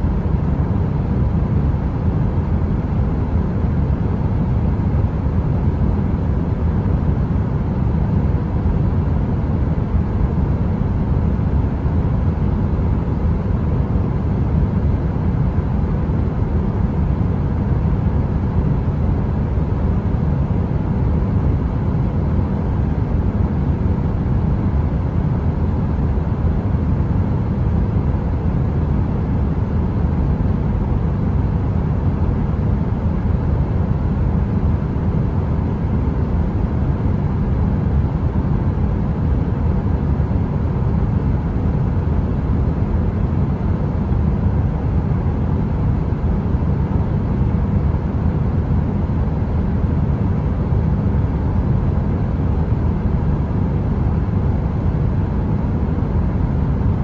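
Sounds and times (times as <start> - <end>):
faint hum: 0.0 - 57.0.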